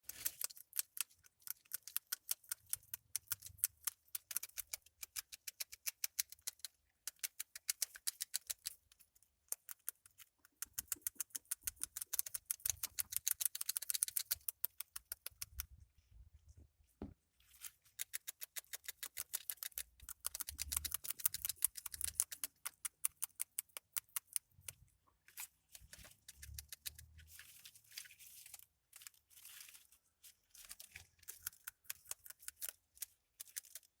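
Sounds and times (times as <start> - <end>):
cane rat teeth chewing: 0.0 - 15.8, 17.8 - 27.4, 30.6 - 34.0.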